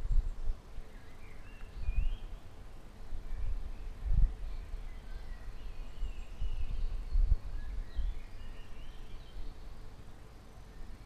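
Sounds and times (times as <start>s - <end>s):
wind rumble on microphone: 0.0s - 9.9s
small birds chirping: 0.0s - 11.0s.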